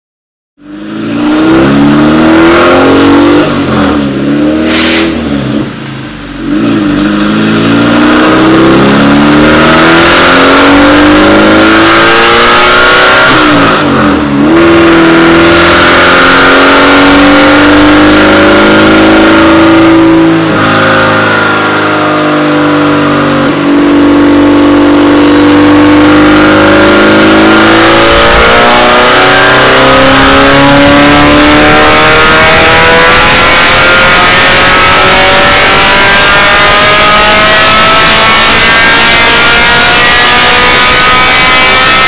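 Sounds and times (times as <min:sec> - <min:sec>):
race car engine revving: 0:00.6 - 0:42.0.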